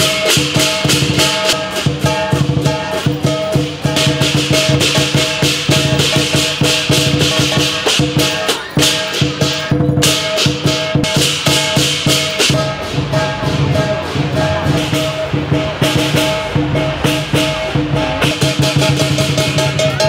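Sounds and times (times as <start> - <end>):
cymbals clashing: 0.0 - 20.0
drum beating: 0.0 - 20.0
gong ringing: 0.0 - 20.0.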